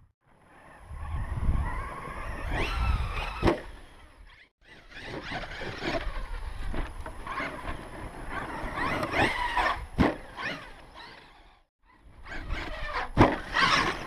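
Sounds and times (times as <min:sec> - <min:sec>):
rough tyre and chassis noise: 0:00.0 - 0:14.0.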